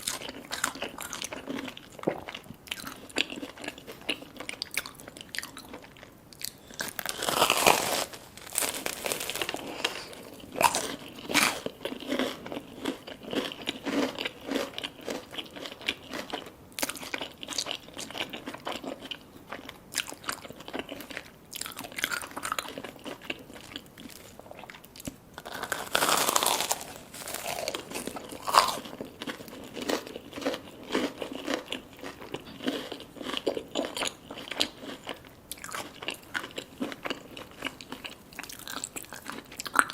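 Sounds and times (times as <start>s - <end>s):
crunching bites of fried food: 0.0s - 39.9s
crunchy chewing: 0.0s - 39.9s.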